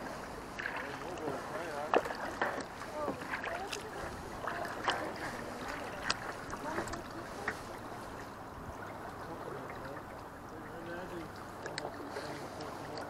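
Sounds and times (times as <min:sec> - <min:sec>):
paddle splashing water: 0:00.0 - 0:13.0
water lapping against hull: 0:00.0 - 0:13.0.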